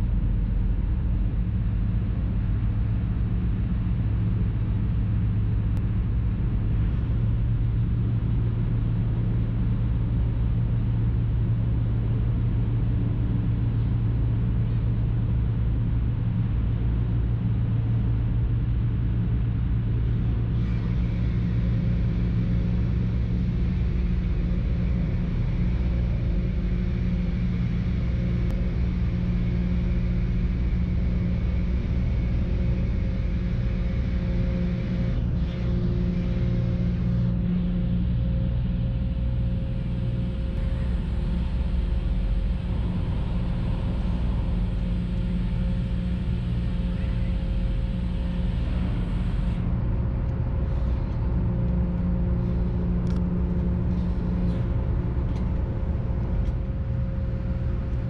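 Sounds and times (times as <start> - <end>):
ferry engine droning: 0.0 - 58.0
high steady whine: 0.0 - 58.0.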